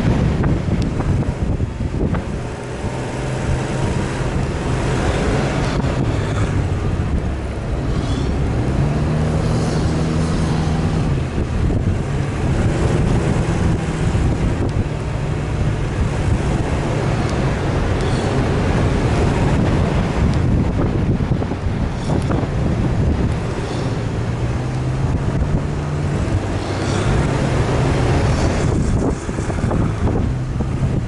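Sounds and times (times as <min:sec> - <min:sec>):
engine revving under load: 0:00.0 - 0:31.0
wind buffeting microphone: 0:00.0 - 0:31.0.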